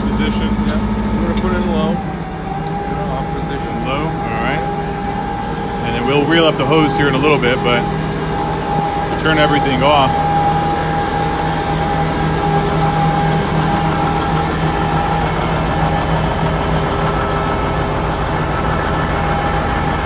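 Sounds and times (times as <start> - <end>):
steady higher whine: 0.0 - 20.0
truck engine idling: 0.0 - 20.0.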